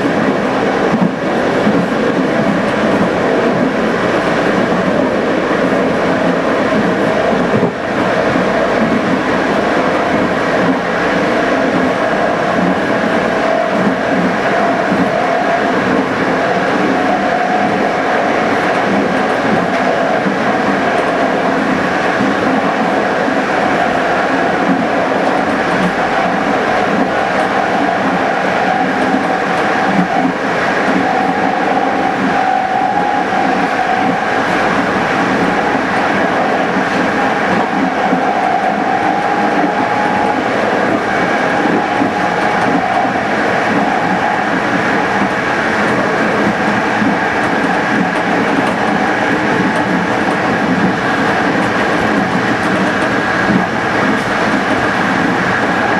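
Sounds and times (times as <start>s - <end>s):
steady whine: 0.0s - 55.9s
train wheels on rails: 0.0s - 55.9s.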